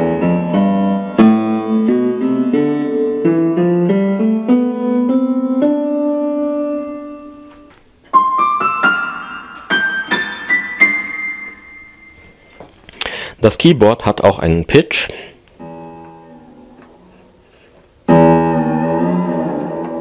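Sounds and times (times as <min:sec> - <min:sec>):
electronic keyboard piano notes: 0:00.0 - 0:12.6, 0:15.6 - 0:17.2, 0:18.0 - 0:20.0.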